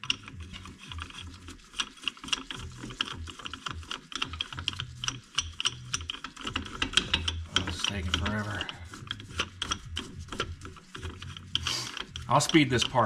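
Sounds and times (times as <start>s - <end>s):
ratchet wrench clicking: 0.0s - 13.0s.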